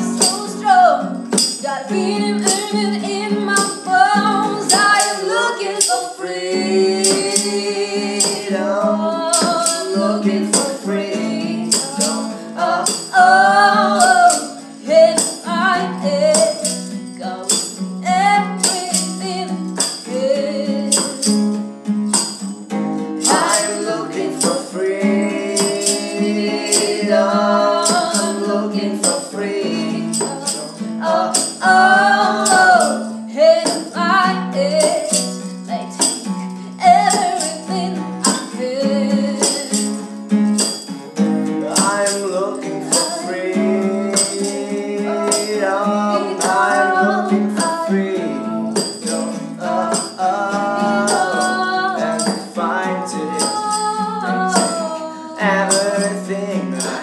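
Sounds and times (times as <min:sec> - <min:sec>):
woman and man singing: 0:00.0 - 0:21.6, 0:23.2 - 0:40.8, 0:41.6 - 0:57.0
strummed acoustic guitar: 0:00.0 - 0:57.0
tambourine beat: 0:00.0 - 0:57.0.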